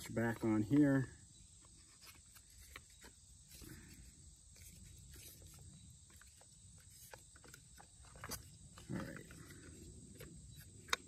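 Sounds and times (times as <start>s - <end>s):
plastic parts clicking and rubbing: 1.6s - 11.0s.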